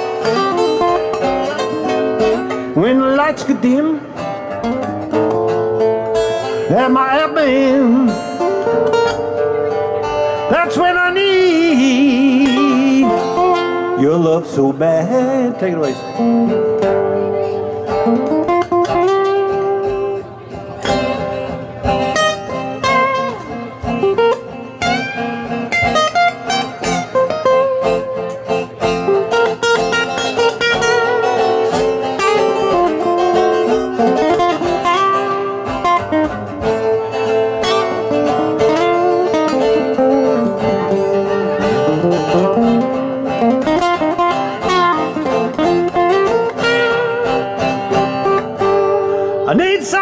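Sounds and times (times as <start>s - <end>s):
accompanying acoustic guitar: 0.0s - 50.0s
acoustic guitar lead lines: 0.0s - 50.0s.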